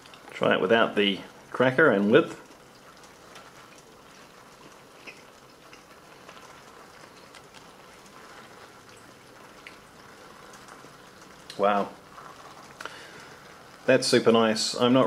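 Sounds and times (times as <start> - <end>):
faint steady hiss: 0.0 - 15.0
rain: 0.0 - 15.0.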